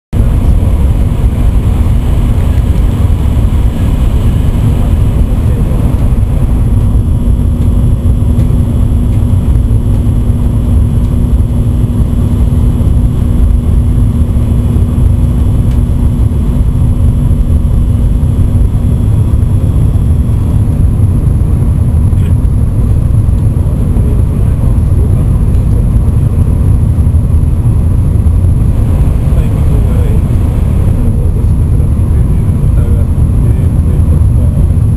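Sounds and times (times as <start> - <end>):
steady hum: 0.1 - 34.9
train rumbling at speed: 0.1 - 34.9.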